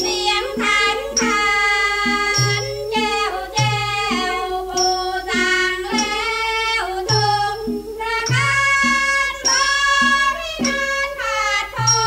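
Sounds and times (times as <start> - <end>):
female chorus singing: 0.0 - 12.0
percussion ensemble music: 0.0 - 12.0.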